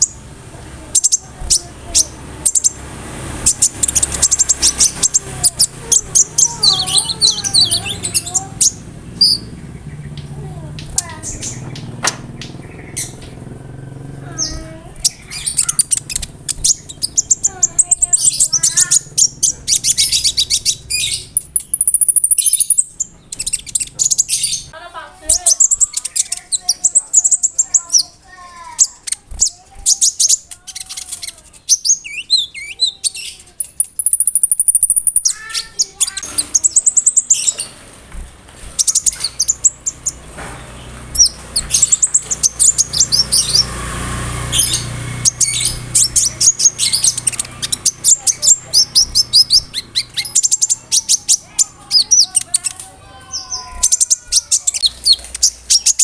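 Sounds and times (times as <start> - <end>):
bird singing with trills: 0.0 - 37.8, 38.6 - 56.0.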